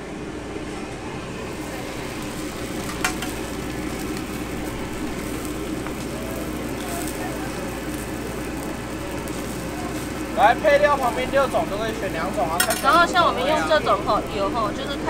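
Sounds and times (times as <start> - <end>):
dough sizzling on griddle: 1.3 - 15.0.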